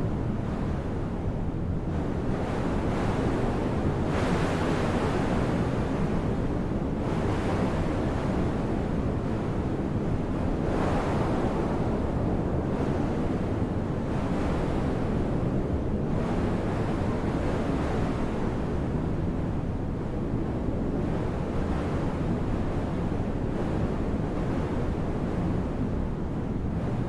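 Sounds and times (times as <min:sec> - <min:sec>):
soft wind heard from indoors: 0:00.0 - 0:27.0.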